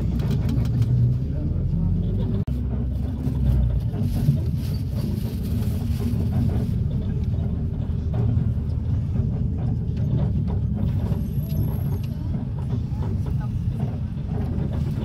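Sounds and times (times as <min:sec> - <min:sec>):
minibus engine rumble: 0:00.0 - 0:15.0
road noise: 0:00.0 - 0:15.0.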